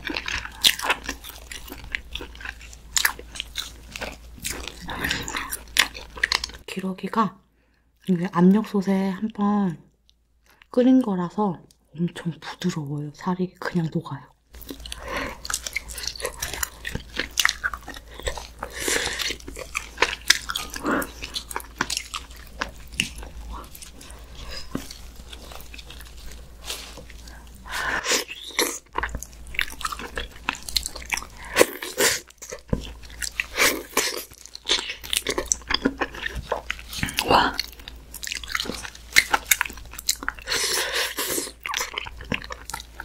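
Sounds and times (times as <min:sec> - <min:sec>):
close chewing and mouth smacks: 0:00.0 - 0:06.7, 0:14.5 - 0:43.0.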